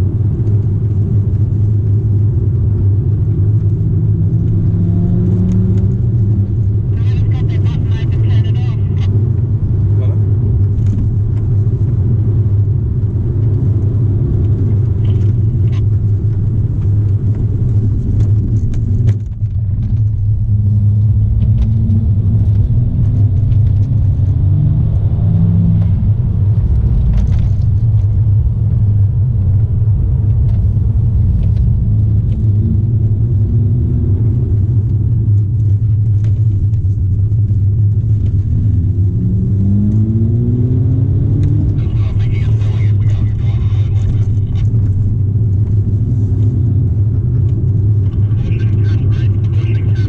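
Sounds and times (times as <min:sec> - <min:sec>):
car engine accelerating: 0:00.0 - 0:50.0
car engine and road drone: 0:00.0 - 0:50.0.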